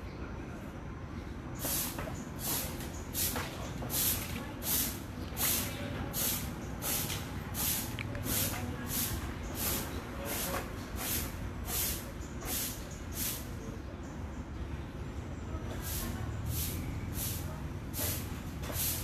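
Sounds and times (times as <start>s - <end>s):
broom sweeping ground: 1.6s - 13.7s, 15.7s - 19.0s.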